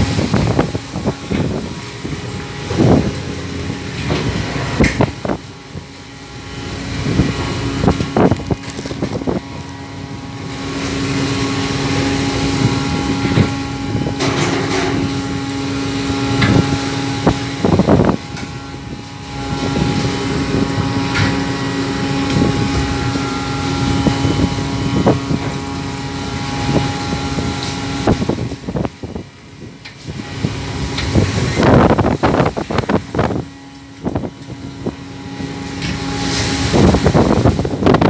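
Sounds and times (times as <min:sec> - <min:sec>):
boat engine droning: 0:00.0 - 0:38.0
wind noise on microphone: 0:00.0 - 0:38.0.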